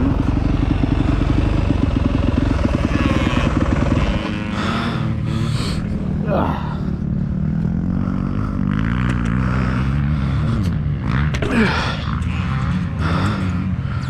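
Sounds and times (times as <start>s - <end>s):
motocross bike engine running: 0.0s - 14.0s.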